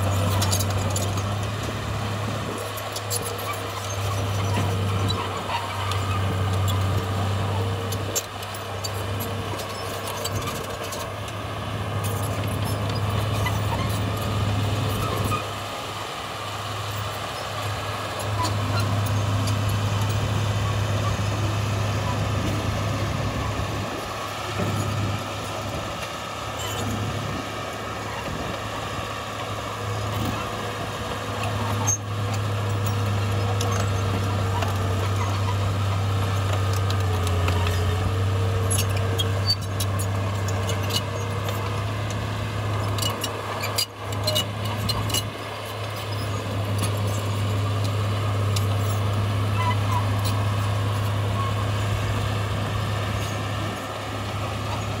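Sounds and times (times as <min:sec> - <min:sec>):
heavy diesel machinery engine drone: 0:00.0 - 0:55.0.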